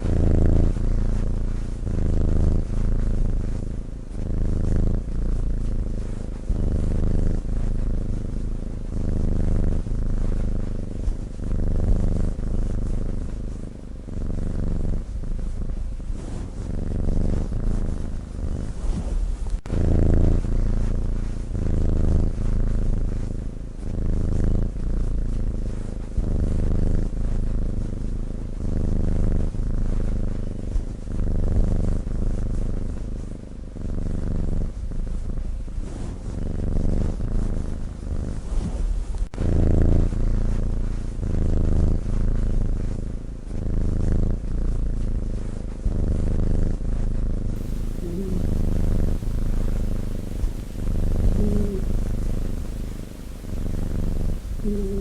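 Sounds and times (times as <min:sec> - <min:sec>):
cat snoring: 0:00.0 - 0:55.0.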